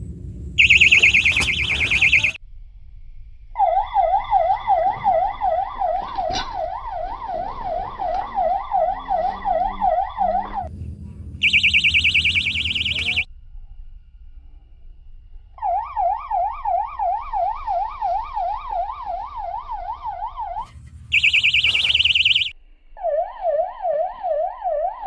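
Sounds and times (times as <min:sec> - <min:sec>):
high warbling bite alarm: 0:00.6 - 0:02.4, 0:03.6 - 0:10.7, 0:11.4 - 0:13.3, 0:15.6 - 0:25.0
lower wailing alarm tone: 0:00.6 - 0:02.4, 0:03.6 - 0:10.7, 0:11.4 - 0:13.3, 0:15.6 - 0:25.0.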